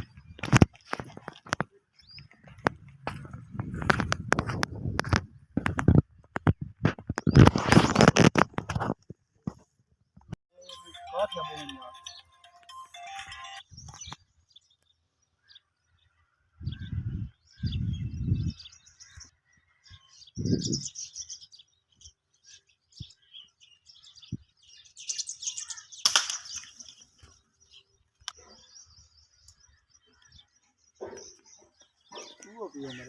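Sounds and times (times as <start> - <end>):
birds chirping: 0.0 - 8.2, 10.1 - 33.0.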